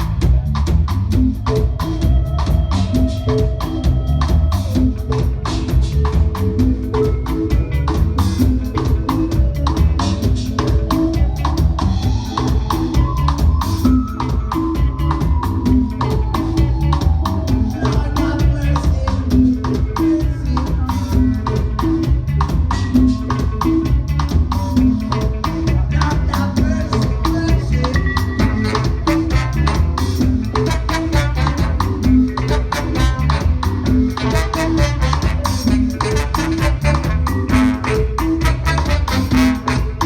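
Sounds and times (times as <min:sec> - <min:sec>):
bass line: 0:00.0 - 0:40.0
drum kit beat: 0:00.0 - 0:40.0
live band playing: 0:00.0 - 0:40.0.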